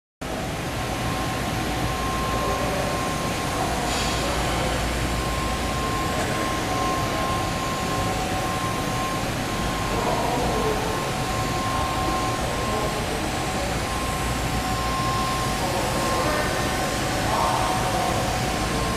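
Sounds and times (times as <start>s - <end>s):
machinery running: 0.2s - 18.9s
high whine: 0.3s - 18.9s.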